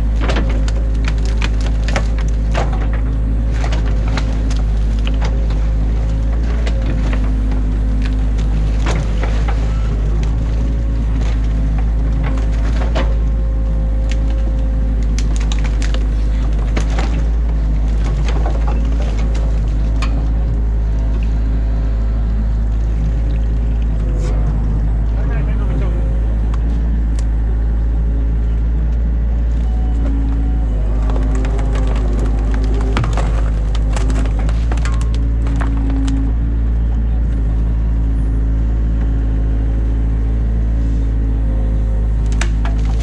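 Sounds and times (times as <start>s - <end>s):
branches cracking and snapping: 0.0s - 24.4s, 28.9s - 37.7s, 38.9s - 43.0s
diesel engine running: 0.0s - 43.0s.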